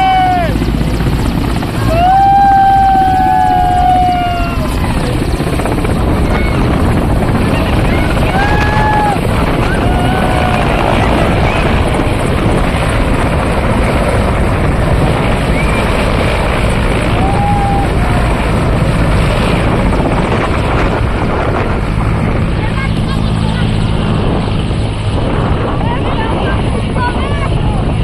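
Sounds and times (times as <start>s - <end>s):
helicopter rotor and engines: 0.0s - 28.0s.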